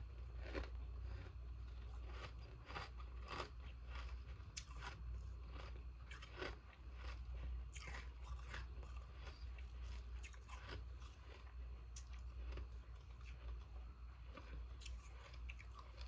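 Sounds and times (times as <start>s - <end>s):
low hum: 0.0s - 16.0s
ice crunching between teeth: 0.4s - 13.7s.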